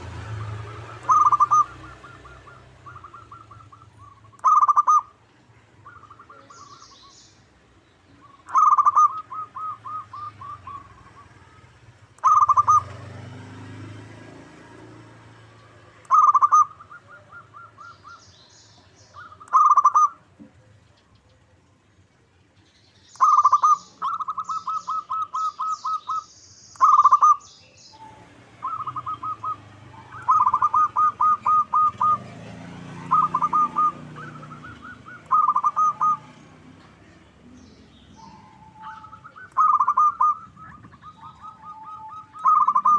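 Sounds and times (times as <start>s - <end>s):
dove cooing: 0.0s - 5.2s, 5.8s - 7.1s, 8.2s - 13.8s, 16.0s - 18.3s, 19.1s - 20.7s, 23.2s - 42.9s.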